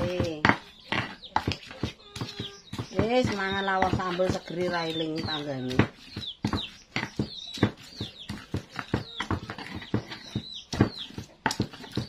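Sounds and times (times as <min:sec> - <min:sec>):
stone pestle knocking in mortar: 0:00.0 - 0:12.0.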